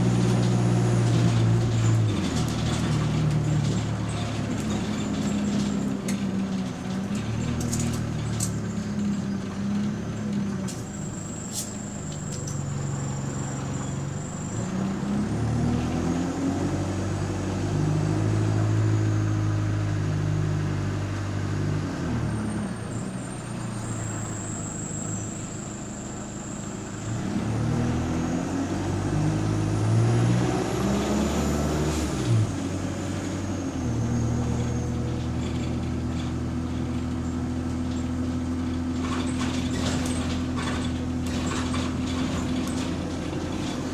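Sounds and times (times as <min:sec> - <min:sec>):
bus engine revving: 0:00.0 - 0:43.9.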